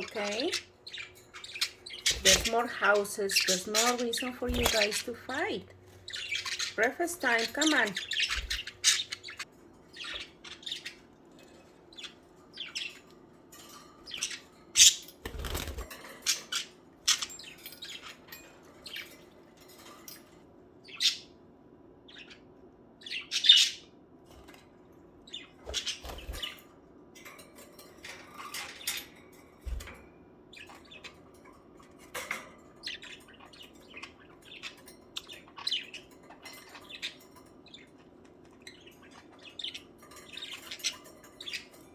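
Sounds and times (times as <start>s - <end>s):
budgerigars chirping and squawking: 0.0s - 41.9s.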